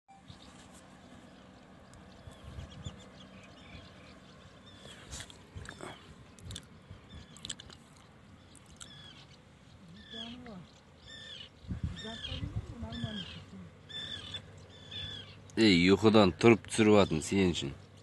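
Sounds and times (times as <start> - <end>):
faint low hum: 0.2 - 18.0
small birds chirping: 0.2 - 18.0.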